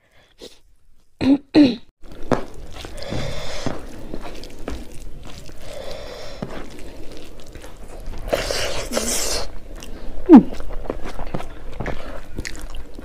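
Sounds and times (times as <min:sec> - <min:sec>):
chewing: 0:02.0 - 0:13.0
fingers squishing rice: 0:02.0 - 0:13.0.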